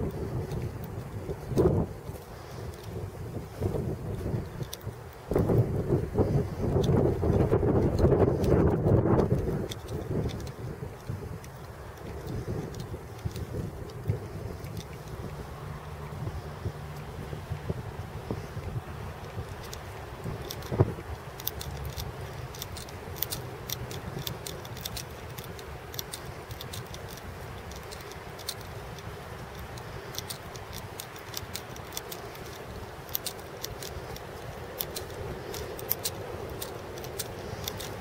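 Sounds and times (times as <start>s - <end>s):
handling noise: 0.0s - 38.0s
light clicks and rattles: 0.0s - 38.0s
low wind rumble: 0.0s - 38.0s.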